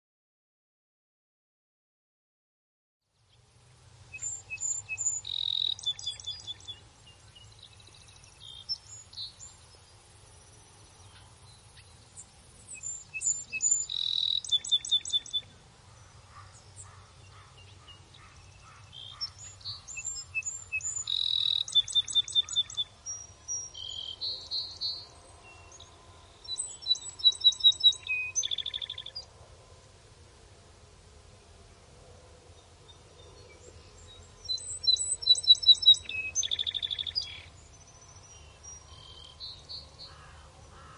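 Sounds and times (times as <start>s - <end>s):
faint low hum: 3.2s - 40.9s
birds chirping and trilling: 4.1s - 29.3s, 32.5s - 40.9s.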